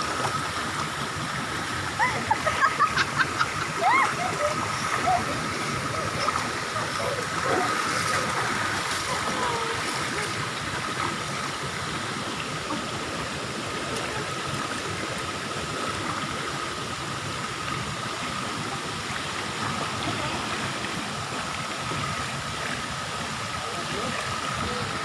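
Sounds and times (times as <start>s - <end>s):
water rushing into pool: 0.0s - 25.0s.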